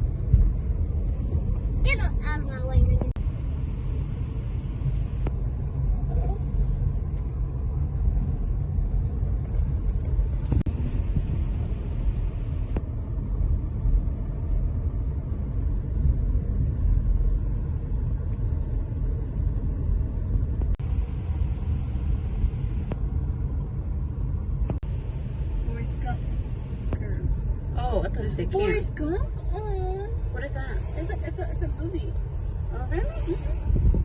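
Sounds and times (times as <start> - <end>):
road rumble inside moving car: 0.0 - 34.0.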